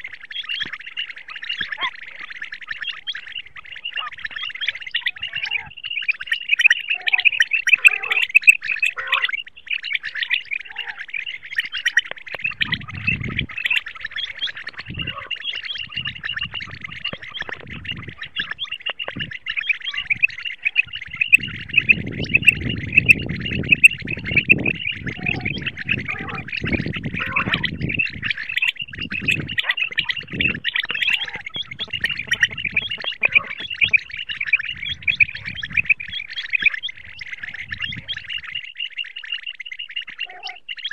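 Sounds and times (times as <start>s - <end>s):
quail calling rapid high chirps: 0.0s - 40.9s.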